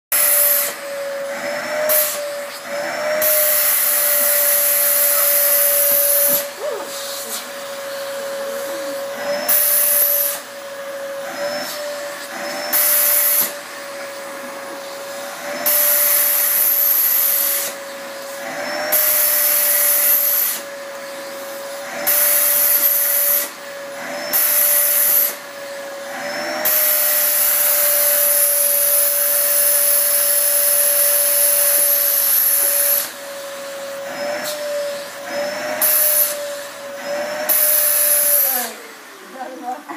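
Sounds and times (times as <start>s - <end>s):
vacuum cleaner motor whine: 0.1s - 39.9s.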